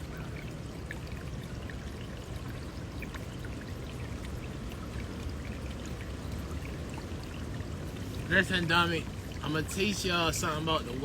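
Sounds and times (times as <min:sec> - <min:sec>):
water drips and splashes: 0:00.0 - 0:11.0
water flowing and trickling: 0:00.0 - 0:11.0.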